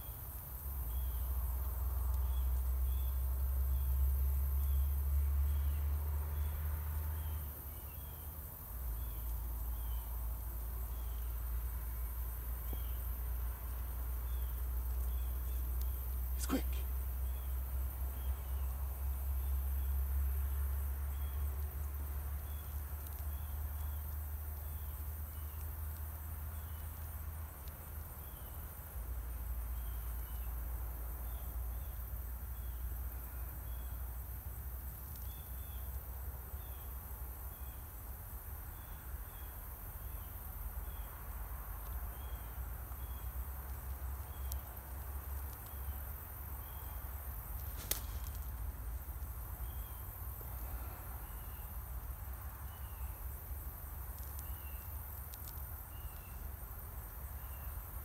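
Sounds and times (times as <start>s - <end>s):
insect chirps: 0.0s - 58.0s.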